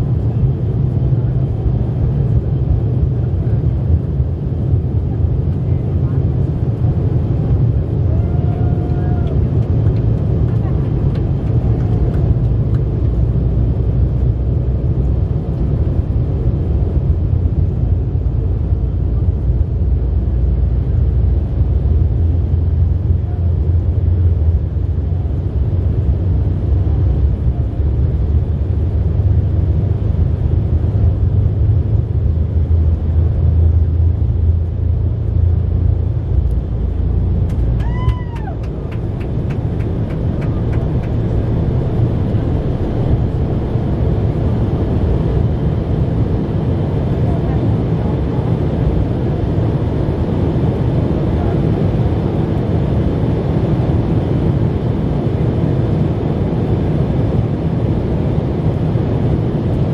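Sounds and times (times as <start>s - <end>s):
jet engines at takeoff power: 0.0s - 59.9s
runway rumble: 0.0s - 59.9s.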